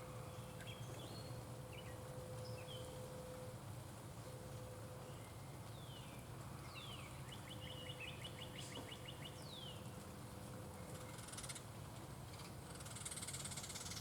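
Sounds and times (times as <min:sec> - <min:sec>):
low outdoor background noise: 0:00.0 - 0:14.0.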